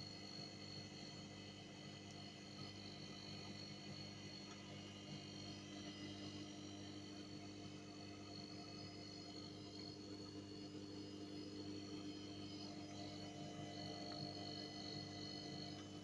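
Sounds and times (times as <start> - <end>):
faint low hum: 0.1 - 16.0.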